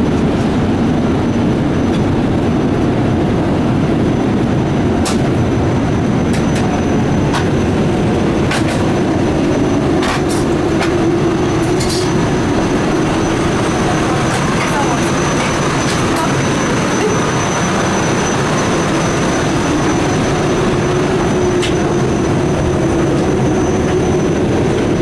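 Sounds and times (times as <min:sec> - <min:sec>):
airplane cabin roar: 0:00.0 - 0:25.0.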